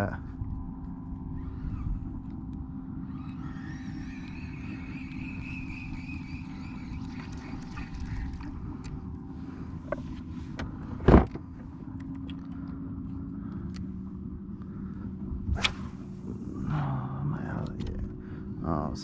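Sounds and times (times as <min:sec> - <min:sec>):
high whine: 0:00.0 - 0:10.9, 0:11.5 - 0:19.0
distant engine drone: 0:00.0 - 0:19.0.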